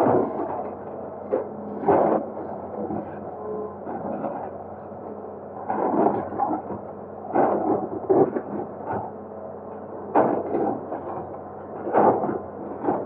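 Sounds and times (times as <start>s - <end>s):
excavator engine hum: 0.0s - 13.0s.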